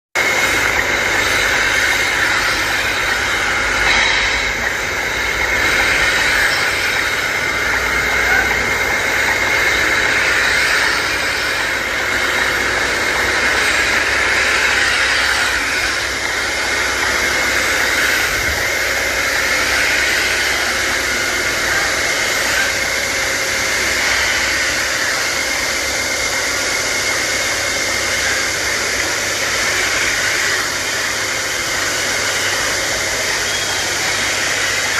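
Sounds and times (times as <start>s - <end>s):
model truck mechanical hum: 0.2s - 34.9s.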